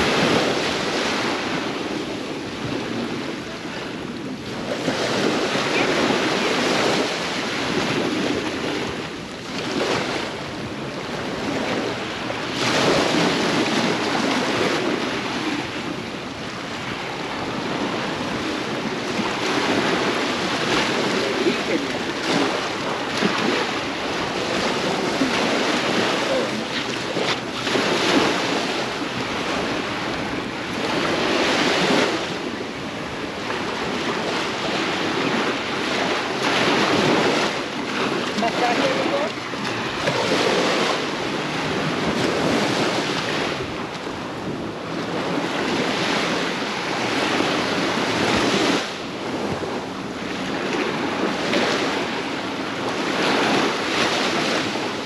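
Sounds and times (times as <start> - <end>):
ocean surf breaking on shore: 0.0 - 55.0
wind on microphone: 0.0 - 55.0.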